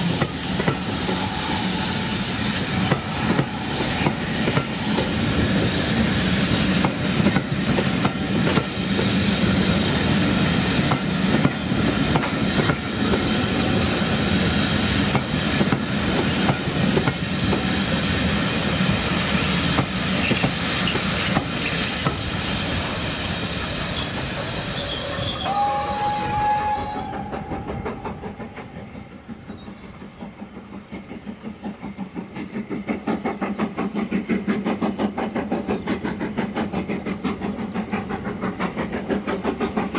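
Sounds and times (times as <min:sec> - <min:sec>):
train coaches rumbling past: 0:00.0 - 0:39.9.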